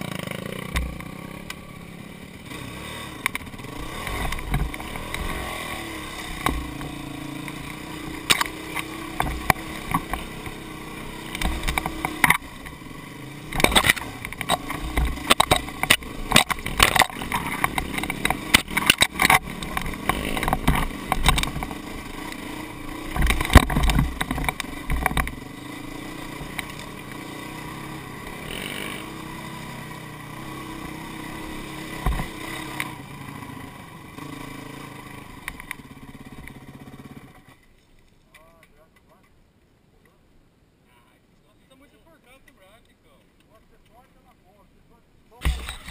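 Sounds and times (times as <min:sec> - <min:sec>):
small engine running: 0:00.0 - 0:37.6, 0:45.4 - 0:45.9.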